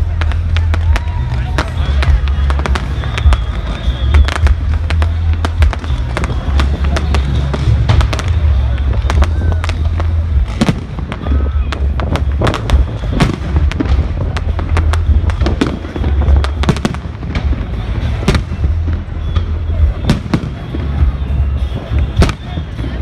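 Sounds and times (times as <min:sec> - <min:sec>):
fireworks bangs and cracks: 0:00.0 - 0:23.0.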